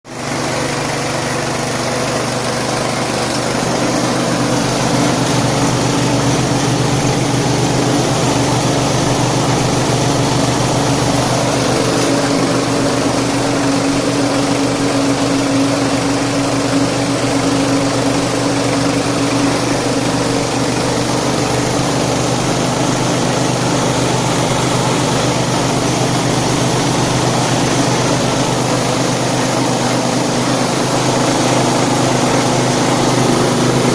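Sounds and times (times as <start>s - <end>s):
rice milling machine drone: 0.1s - 33.9s.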